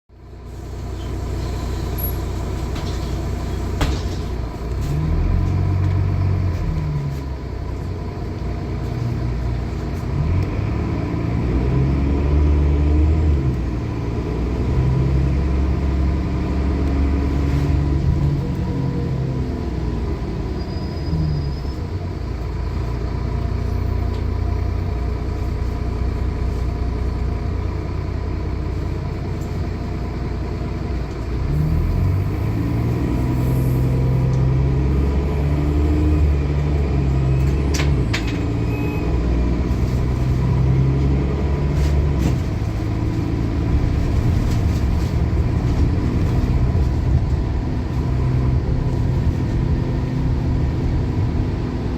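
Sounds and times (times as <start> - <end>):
bus diesel engine pulling hard: 0.1 - 51.9.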